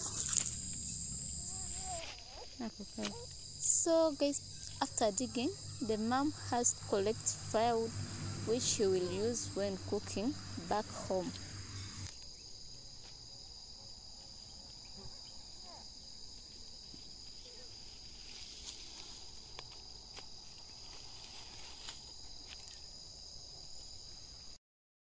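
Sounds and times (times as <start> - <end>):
insect chorus trilling: 0.0 - 24.6.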